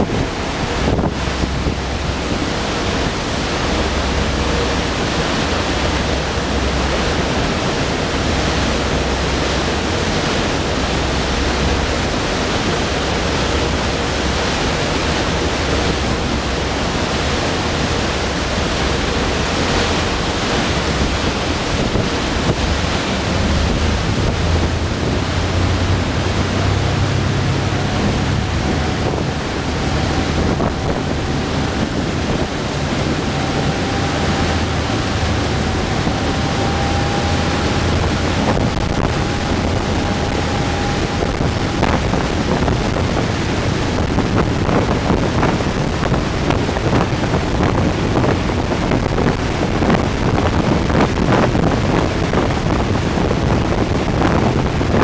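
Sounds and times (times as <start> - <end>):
boat wake rushing: 0.0 - 55.0
low engine drone: 0.0 - 55.0
wind on microphone: 0.0 - 55.0.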